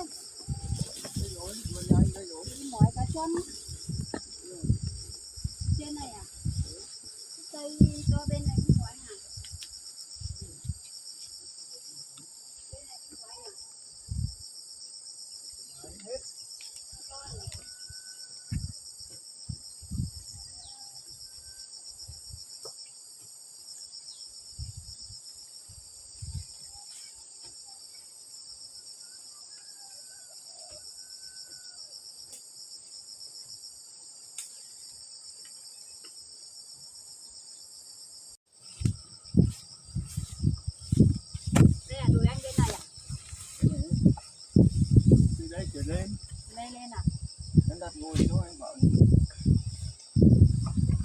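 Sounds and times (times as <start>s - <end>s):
faster pulsing insect chirp: 0.0s - 35.0s, 35.6s - 51.0s
insects pulsing trill: 0.0s - 51.0s.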